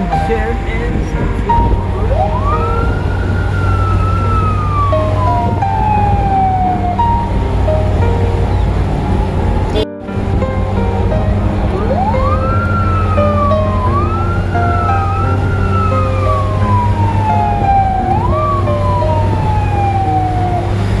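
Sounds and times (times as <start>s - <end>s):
background music stepped notes: 0.0s - 21.0s
emergency siren wailing: 0.0s - 21.0s.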